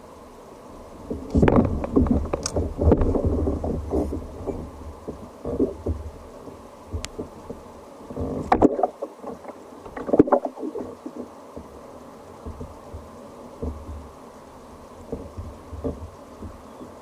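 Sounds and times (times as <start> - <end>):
water lapping against kayak hull: 1.0 - 17.0.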